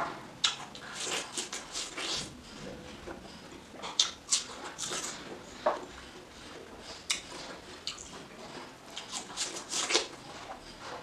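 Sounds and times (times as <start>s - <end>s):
biting and chewing watermelon: 0.0s - 11.0s.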